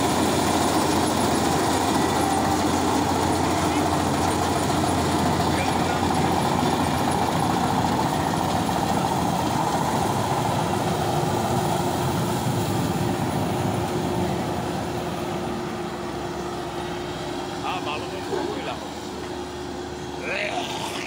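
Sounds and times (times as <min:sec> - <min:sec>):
combine harvester droning: 0:00.0 - 0:21.0.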